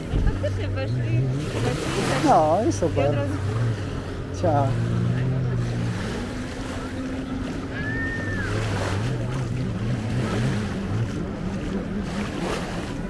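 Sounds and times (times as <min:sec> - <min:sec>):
surf washing on beach: 0:00.0 - 0:13.0.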